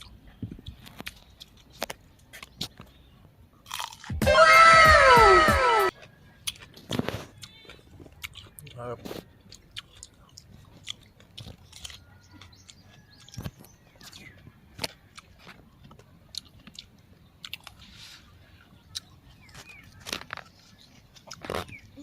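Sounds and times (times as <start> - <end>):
chewing raw vegetables: 0.0 - 2.9, 3.6 - 5.1, 5.9 - 22.0.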